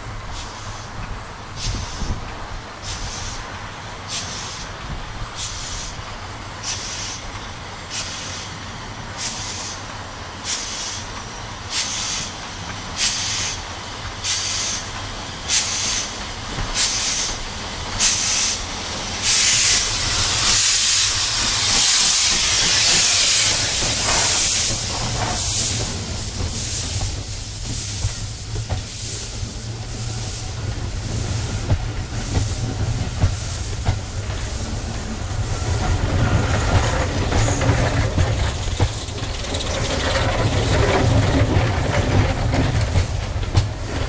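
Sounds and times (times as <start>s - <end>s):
loud steam hiss: 0.0s - 44.0s
rumble of train coaches: 0.0s - 44.0s
steam locomotive exhaust beats: 0.0s - 44.0s.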